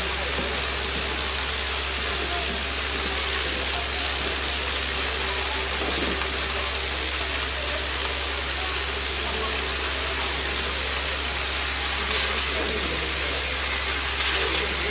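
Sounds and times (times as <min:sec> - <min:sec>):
low hum of vibrating drive: 0:00.0 - 0:14.9.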